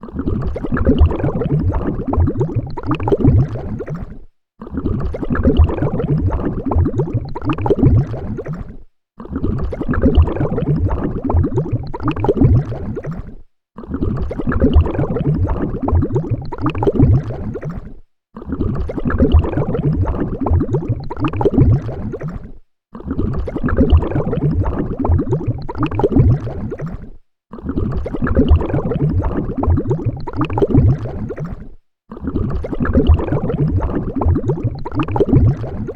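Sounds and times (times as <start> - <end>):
underwater bubbling: 0.0 - 35.9.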